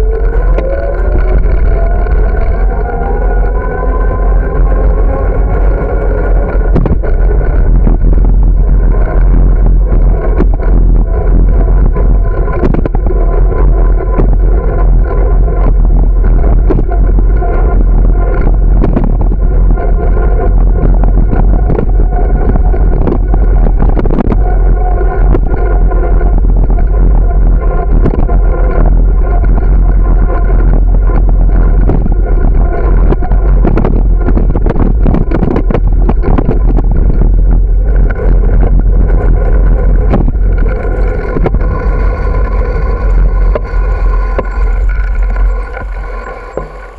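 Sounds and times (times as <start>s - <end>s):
bike knocking and rattling: 0.0s - 46.9s
continuous drone: 0.0s - 46.9s
wind buffeting microphone: 0.0s - 46.9s.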